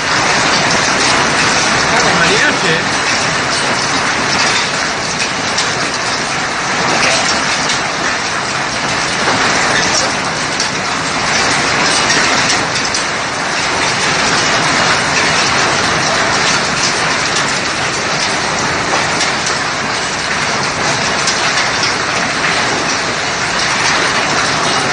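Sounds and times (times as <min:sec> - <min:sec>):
hailstones clattering: 0:00.0 - 0:24.9.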